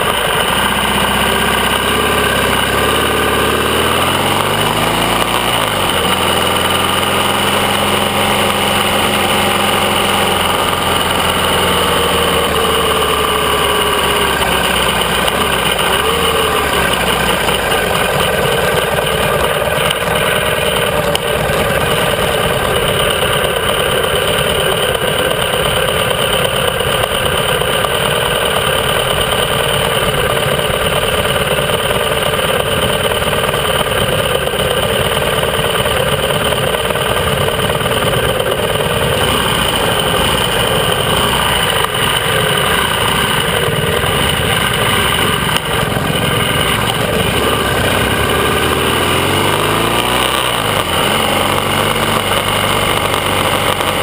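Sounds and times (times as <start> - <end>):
motorcycle engine slowing and idling: 0.0 - 54.0.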